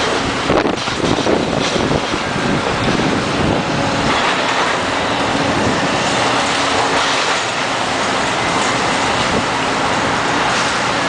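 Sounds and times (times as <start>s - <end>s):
diesel engines humming: 0.0s - 11.0s.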